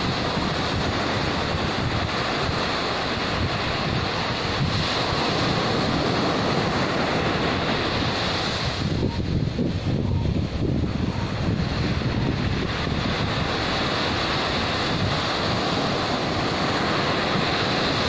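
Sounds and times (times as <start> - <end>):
surf washing up a sandy beach: 0.0 - 18.0
wind buffeting the microphone: 0.0 - 18.0.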